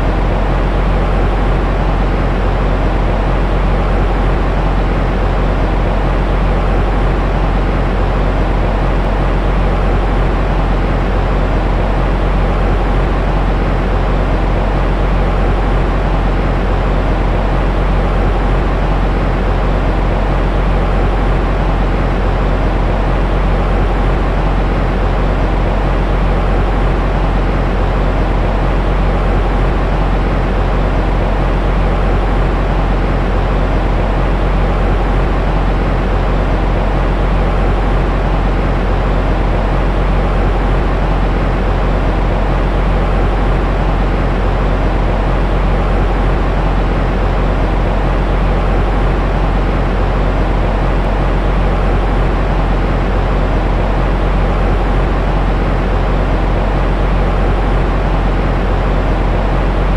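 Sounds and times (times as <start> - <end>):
low rumbling white noise: 0.0 - 59.9.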